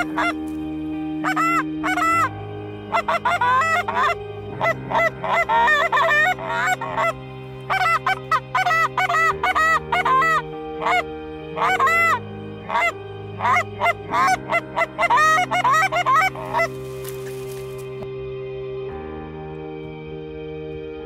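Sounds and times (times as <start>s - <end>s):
geese honking: 0.0s - 18.1s
background music chords: 0.0s - 21.0s.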